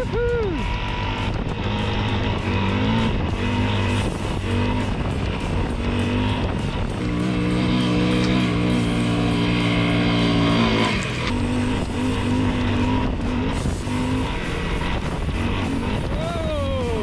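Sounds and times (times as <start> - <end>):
background music held chords: 0.0 - 17.0
motorcycle engine running: 0.0 - 17.0.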